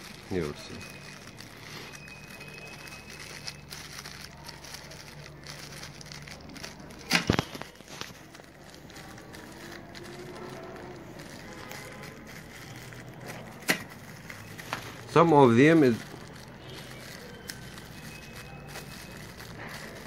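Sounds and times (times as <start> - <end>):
metal connectors clinking: 0.0 - 20.0
plastic bags crinkling: 0.0 - 20.0.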